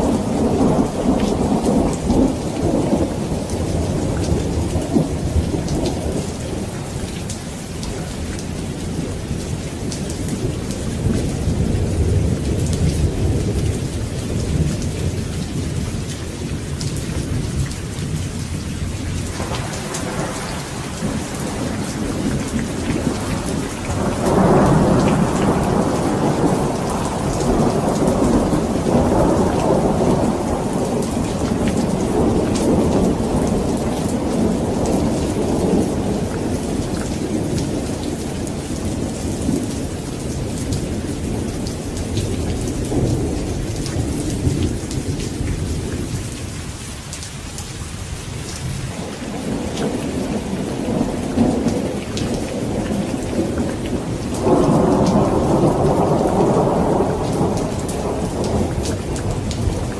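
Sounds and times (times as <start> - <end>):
rolling thunder: 0.0 - 7.3, 8.2 - 46.7, 48.5 - 59.9
steady rain: 0.0 - 59.9.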